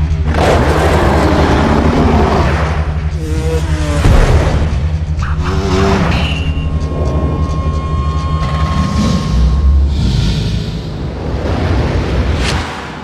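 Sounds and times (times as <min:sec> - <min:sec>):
low drone: 0:00.0 - 0:13.0.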